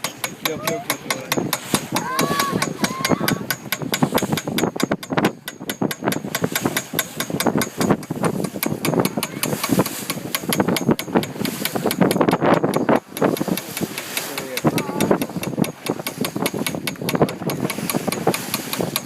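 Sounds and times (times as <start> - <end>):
boat hull slapping on waves: 0.0 - 19.0
outboard engine running: 0.0 - 19.0.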